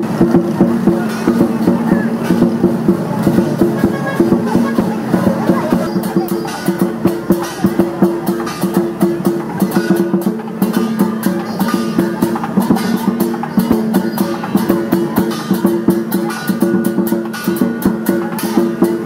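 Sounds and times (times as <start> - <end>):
plucked strings music with beat: 0.0 - 19.0.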